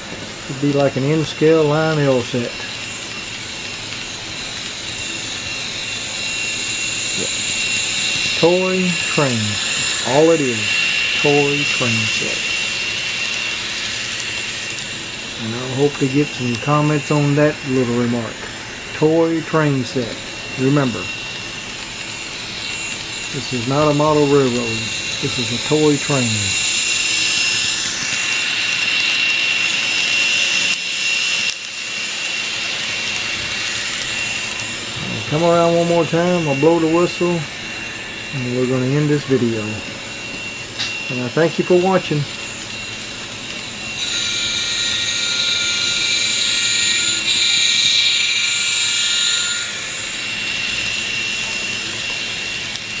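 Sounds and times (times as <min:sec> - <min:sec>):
steady engine sound hiss: 0:00.0 - 0:43.9
model train motor whine: 0:00.0 - 0:53.0.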